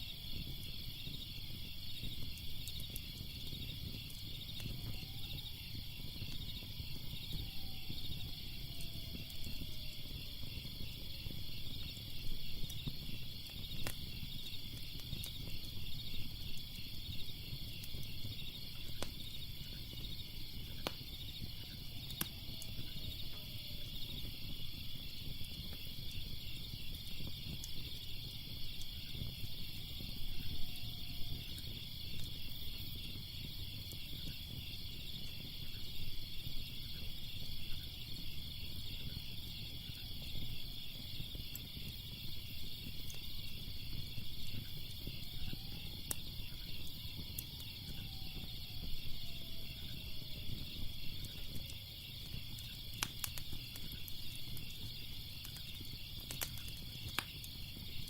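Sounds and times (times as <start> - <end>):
crickets chirping: 0.0 - 58.0
fire crackling and popping: 0.0 - 58.0.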